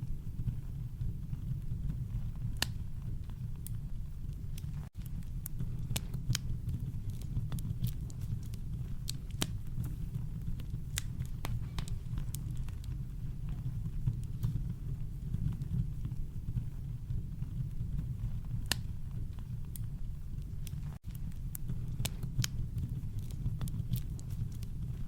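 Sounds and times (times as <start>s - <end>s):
burning wood popping and snapping: 0.4s - 25.0s.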